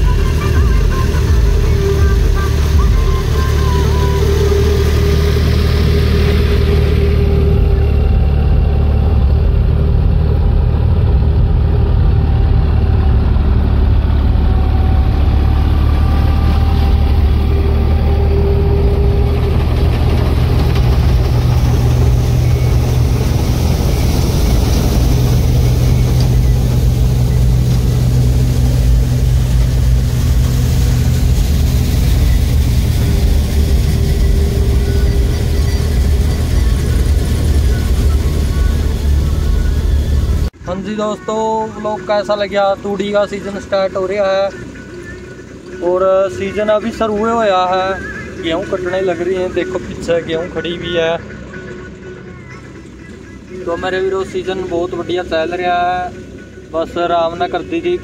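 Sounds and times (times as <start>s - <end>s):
reaper machinery running: 0.0s - 58.0s
tractor diesel engine under load: 0.0s - 58.0s.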